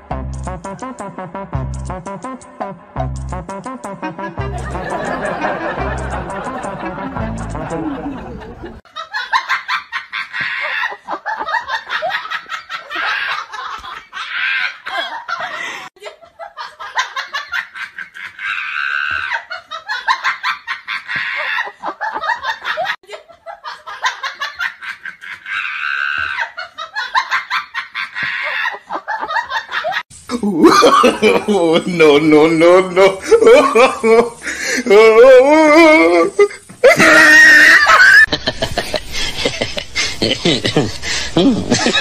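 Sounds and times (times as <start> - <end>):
people laughing: 4.0 - 42.0.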